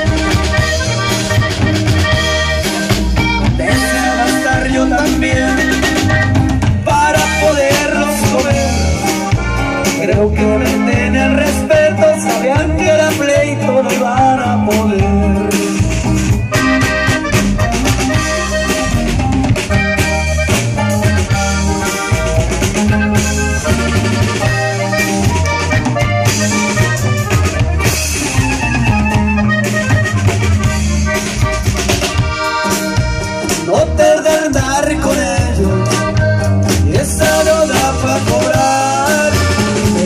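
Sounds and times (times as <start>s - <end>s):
accordion melody: 0.0s - 40.0s
drum kit beat: 0.0s - 40.0s.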